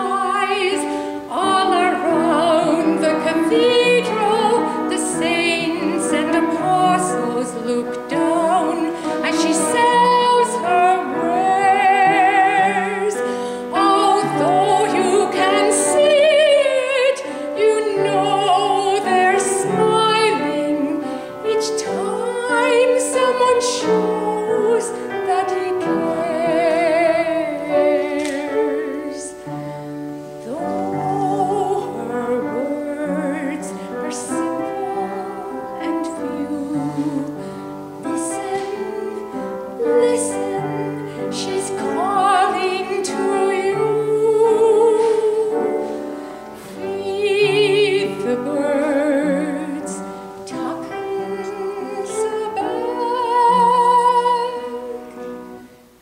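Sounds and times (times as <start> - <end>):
woman singing a ballad: 0.0 - 55.7
piano accompaniment: 0.0 - 56.0.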